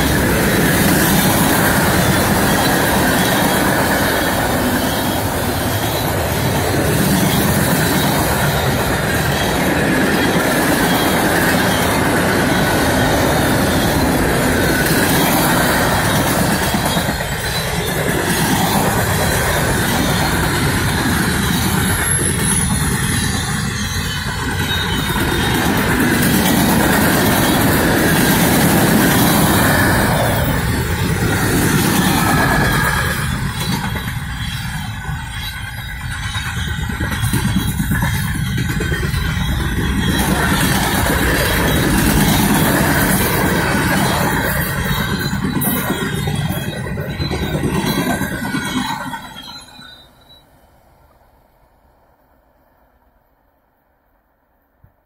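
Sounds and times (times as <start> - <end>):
high ringing of wheels: 0.0 - 50.7
train wheels rumbling on rails: 0.0 - 51.6.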